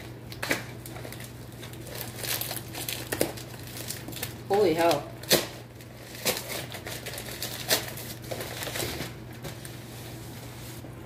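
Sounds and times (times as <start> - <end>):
plastic bag rustling: 0.0 - 10.9.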